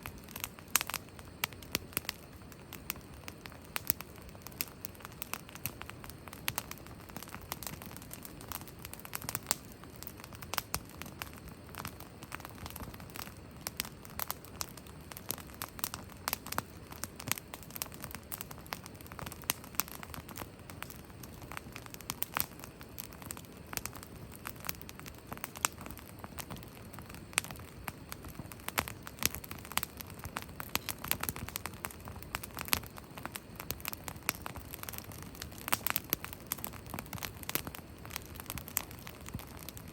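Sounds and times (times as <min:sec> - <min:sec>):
campfire crackling and popping: 0:00.0 - 0:39.9
low hiss of burning: 0:00.0 - 0:39.9.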